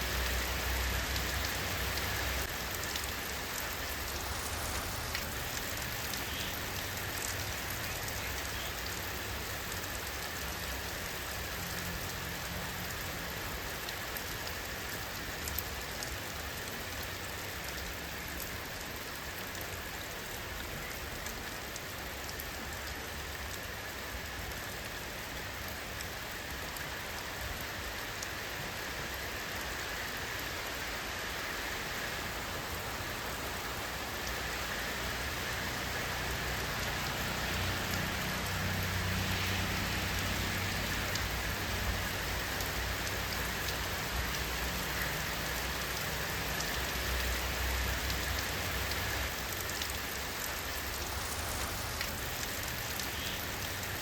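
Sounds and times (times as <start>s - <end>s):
rain falling: 0.0s - 54.0s
rain drop ticks: 0.1s - 31.6s, 32.6s - 54.0s.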